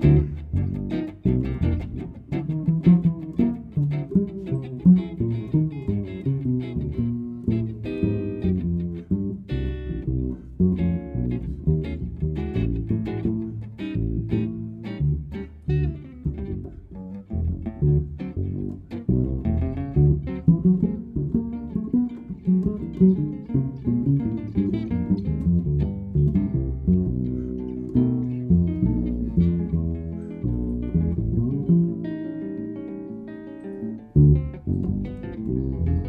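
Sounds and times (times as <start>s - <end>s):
picked electric guitar notes: 0.0s - 36.0s
plucked walking bass line: 0.0s - 36.0s.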